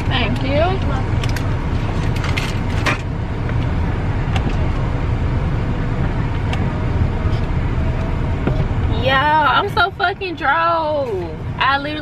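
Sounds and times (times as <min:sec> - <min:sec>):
car engine rumble from cabin: 0:00.0 - 0:12.0.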